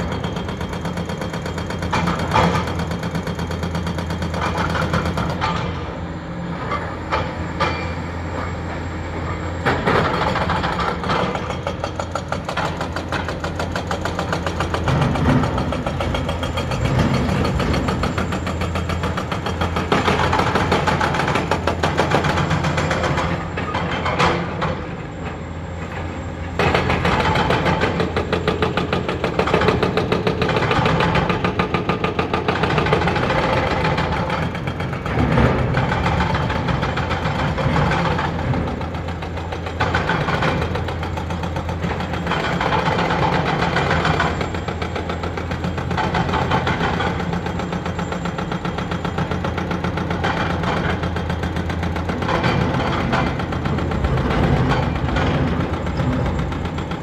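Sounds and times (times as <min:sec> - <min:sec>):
hydraulic breaker hammering rock: 0:00.0 - 0:06.0, 0:06.6 - 0:57.0
excavator diesel engines: 0:00.0 - 0:57.0.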